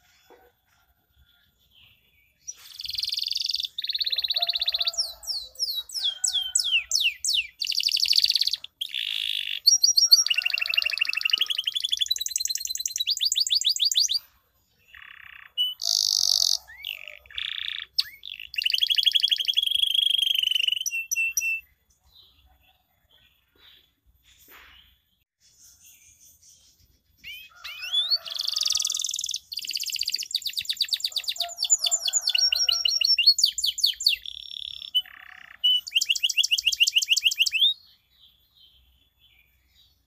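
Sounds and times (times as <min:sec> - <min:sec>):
canary singing trills: 0:01.8 - 0:23.9, 0:24.5 - 0:40.0.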